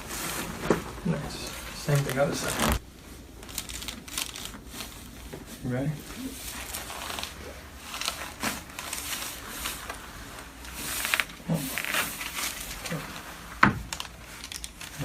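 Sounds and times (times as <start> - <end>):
clothing rustling: 0.0 - 15.0.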